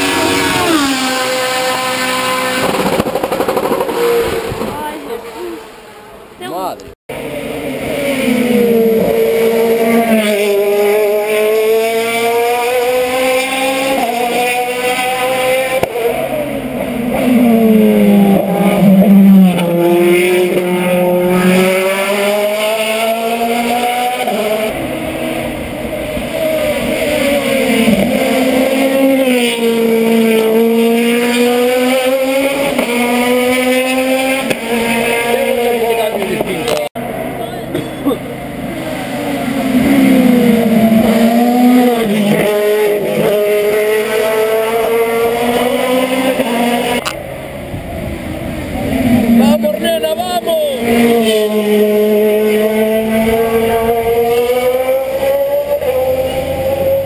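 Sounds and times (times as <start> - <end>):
race car engine accelerating: 0.0 - 5.9, 7.1 - 57.0.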